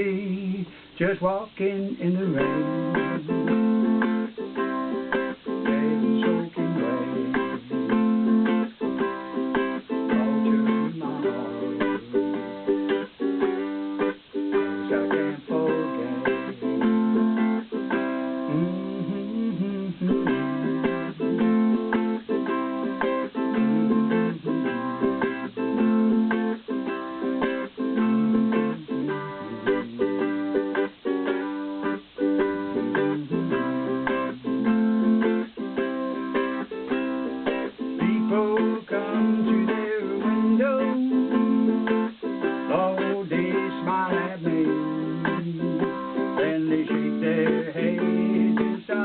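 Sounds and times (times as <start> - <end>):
ukulele strumming chords: 0.0 - 49.0.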